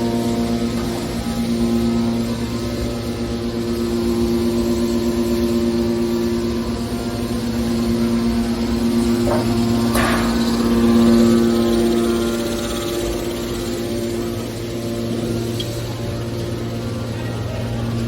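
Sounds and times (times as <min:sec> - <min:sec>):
baler machinery humming: 0:00.0 - 0:18.0.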